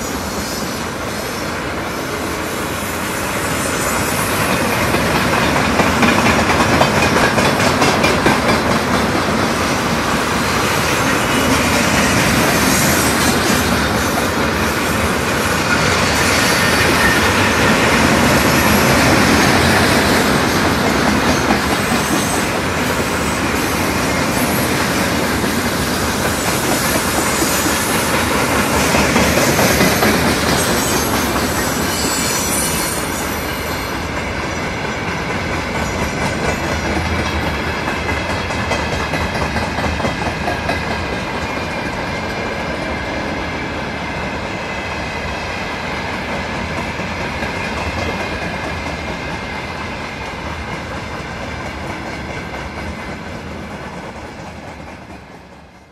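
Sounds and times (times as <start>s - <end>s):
freight train wheels on rails: 0.0s - 55.9s.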